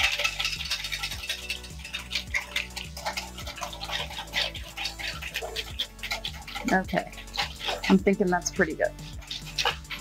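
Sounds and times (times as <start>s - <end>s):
liquid sloshing: 0.0s - 10.0s
wire whisk clinking in metal bowl: 0.0s - 10.0s.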